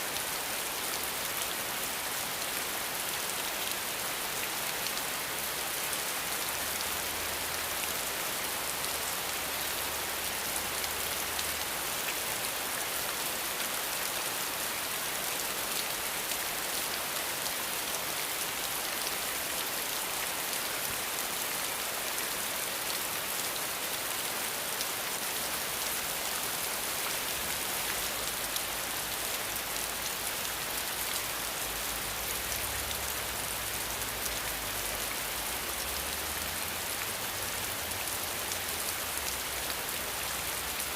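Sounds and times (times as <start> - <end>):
dense rainfall: 0.0 - 40.9.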